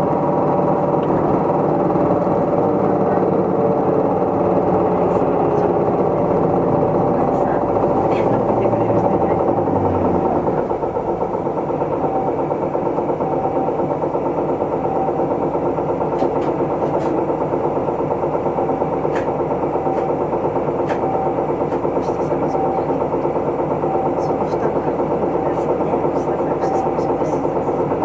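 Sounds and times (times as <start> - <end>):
bus diesel engine idling: 0.0 - 28.0.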